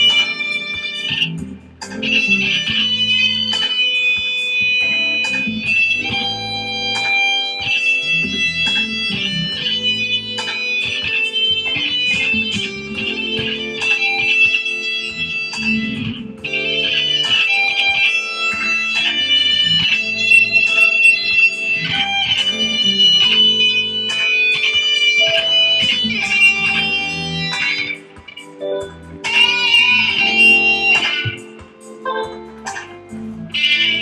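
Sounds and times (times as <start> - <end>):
electric guitar lead with backing: 0.0 - 34.0.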